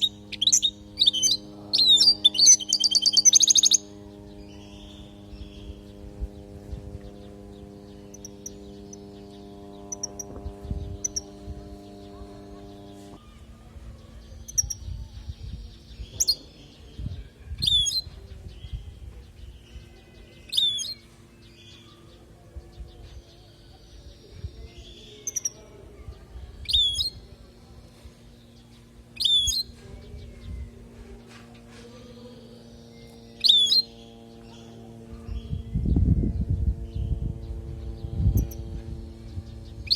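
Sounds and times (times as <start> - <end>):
finch twittering song: 0.0 - 39.9
steady low hum: 0.0 - 39.9.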